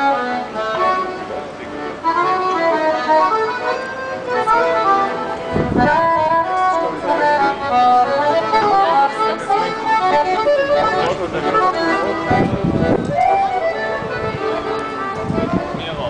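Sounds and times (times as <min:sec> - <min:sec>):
accordion melody: 0:00.0 - 0:16.0.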